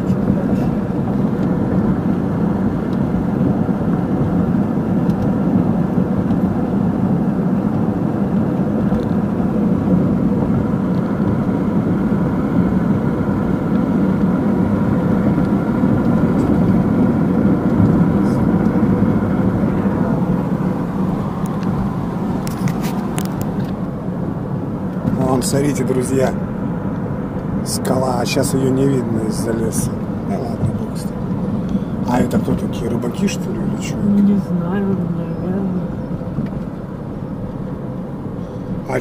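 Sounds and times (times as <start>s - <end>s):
road and engine noise in car: 0.0s - 39.0s.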